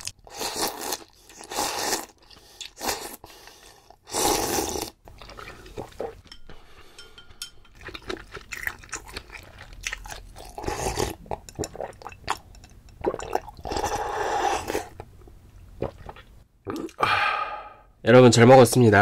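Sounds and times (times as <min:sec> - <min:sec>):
person sipping and swallowing broth: 0:00.0 - 0:15.1, 0:15.8 - 0:17.9.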